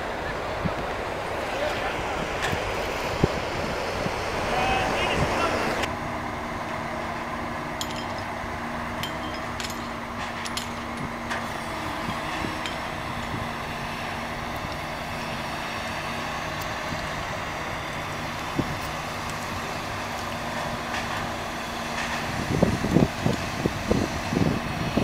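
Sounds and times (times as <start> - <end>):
industrial machinery drone: 0.0 - 25.0.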